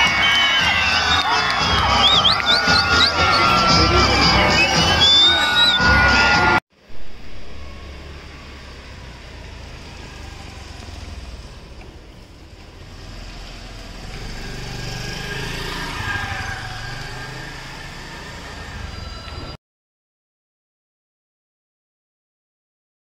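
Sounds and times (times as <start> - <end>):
vehicle engine running: 0.3 - 19.3.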